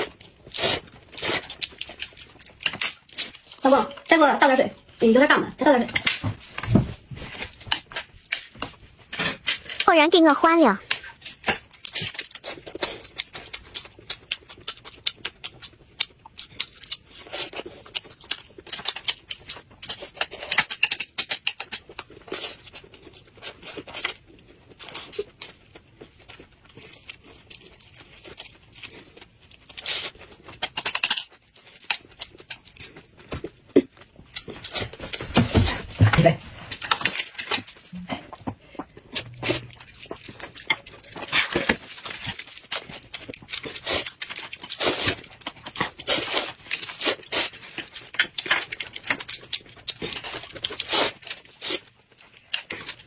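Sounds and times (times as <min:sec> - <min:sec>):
person chewing crispy food: 0:00.0 - 0:04.1, 0:10.9 - 0:53.0.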